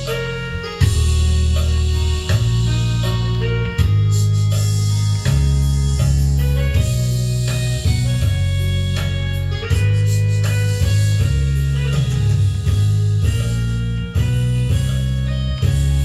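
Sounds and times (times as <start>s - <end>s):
bass line: 0.0s - 16.0s
drums: 0.0s - 16.0s
guitar melody: 0.0s - 16.0s.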